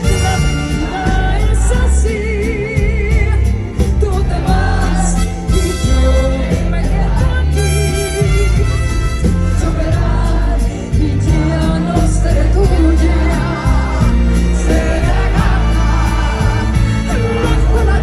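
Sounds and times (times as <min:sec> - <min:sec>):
band playing with heavy bass: 0:00.0 - 0:18.0
woman singing with vibrato: 0:00.0 - 0:18.0.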